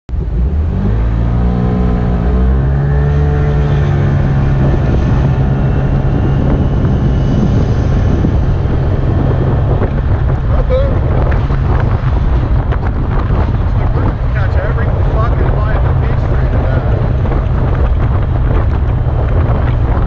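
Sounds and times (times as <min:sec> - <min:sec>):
vehicle engine accelerating: 0:00.1 - 0:20.0
wind and road noise: 0:00.1 - 0:20.0.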